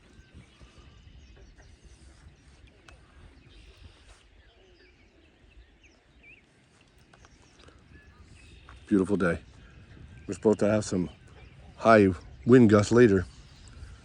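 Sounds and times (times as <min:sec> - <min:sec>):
small birds chirping: 0:00.0 - 0:14.0
wind rumble on microphone: 0:00.0 - 0:14.0.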